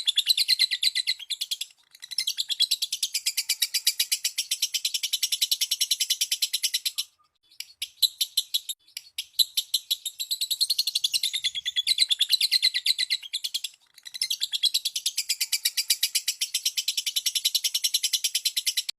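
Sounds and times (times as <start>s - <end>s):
lovebird chattering chirps: 0.0s - 18.9s.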